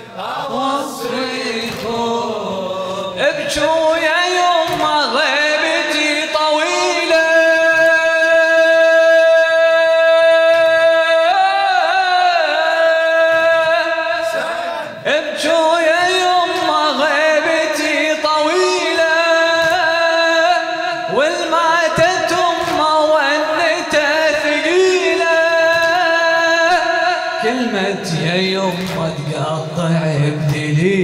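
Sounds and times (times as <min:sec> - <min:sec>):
man singing a lament: 0:00.0 - 0:31.0.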